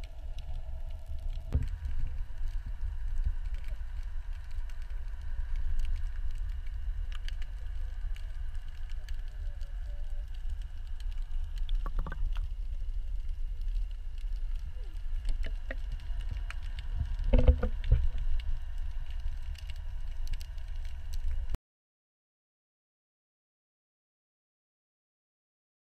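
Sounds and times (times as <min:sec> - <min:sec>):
faint whining tones: 0:00.0 - 0:21.6
low underwater rumble: 0:00.0 - 0:21.6.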